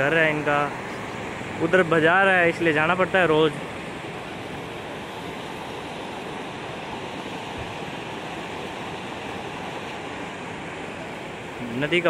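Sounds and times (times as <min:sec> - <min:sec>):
floodwater rushing and pouring: 0:00.0 - 0:12.0.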